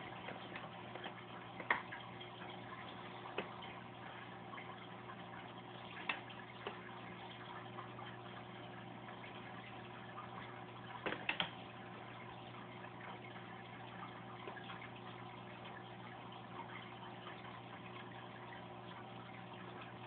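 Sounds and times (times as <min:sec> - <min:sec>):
low electric hum: 0:00.0 - 0:20.0
water trickling and splashing: 0:00.0 - 0:20.0.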